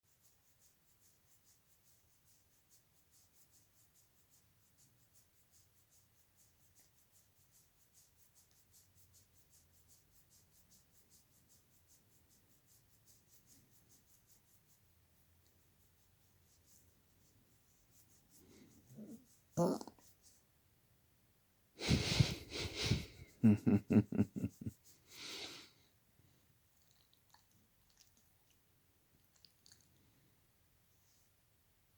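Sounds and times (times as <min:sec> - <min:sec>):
patting on dog's fur: 0:00.1 - 0:20.5, 0:21.8 - 0:30.3.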